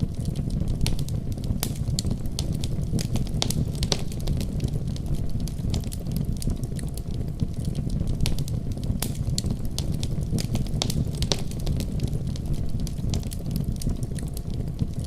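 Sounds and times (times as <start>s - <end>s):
deep rumble of snowstorm: 0.0s - 15.0s
wood fire crackling and popping: 0.0s - 15.0s.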